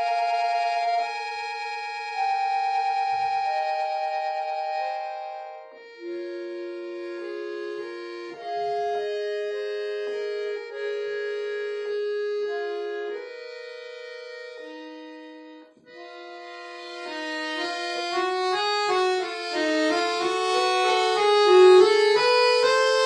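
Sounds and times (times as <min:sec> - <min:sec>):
accordion playing chords: 0:00.0 - 0:23.0.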